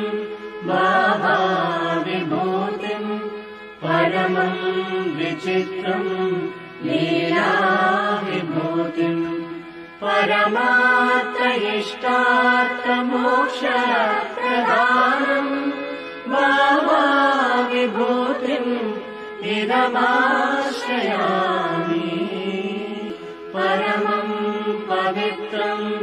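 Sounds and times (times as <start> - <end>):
person singing a chant: 0.0 - 26.0.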